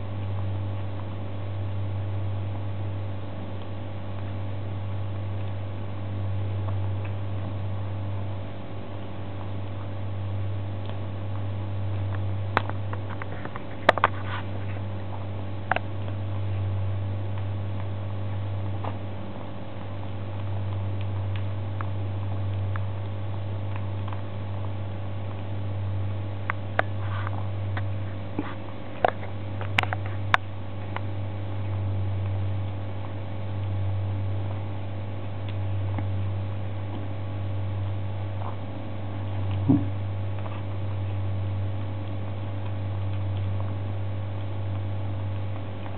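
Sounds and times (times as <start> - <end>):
steady low hum: 0.0 - 45.9
kitten chewing: 2.4 - 45.9.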